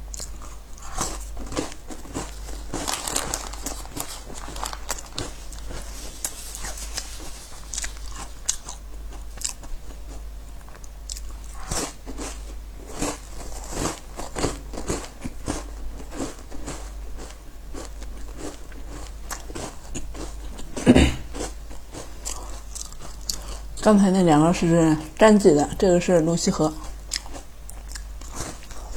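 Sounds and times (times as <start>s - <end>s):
crunching and chewing biscuits: 0.0s - 23.8s, 26.7s - 28.9s.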